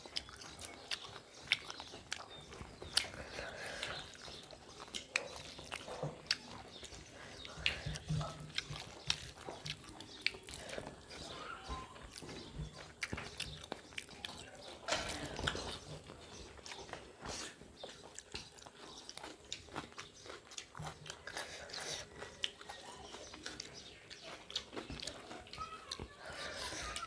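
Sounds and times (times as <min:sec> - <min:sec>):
food crunches: 0:00.0 - 0:11.4, 0:12.0 - 0:27.0
chewing and lip-smacking: 0:00.0 - 0:27.0.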